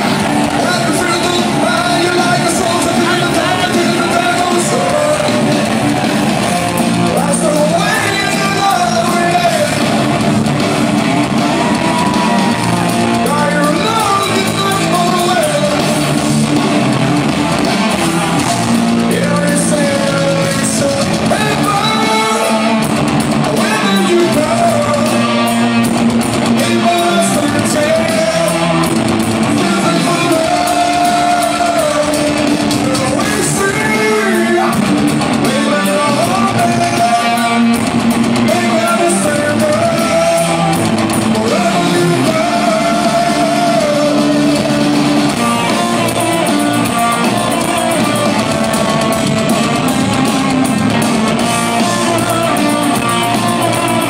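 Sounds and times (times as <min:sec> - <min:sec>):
lead vocal singing: 0:00.0 - 0:06.3, 0:07.0 - 0:10.1, 0:11.5 - 0:16.5, 0:17.8 - 0:25.8, 0:26.5 - 0:54.0
bass and drums: 0:00.0 - 0:54.0
distorted electric guitars: 0:00.0 - 0:54.0.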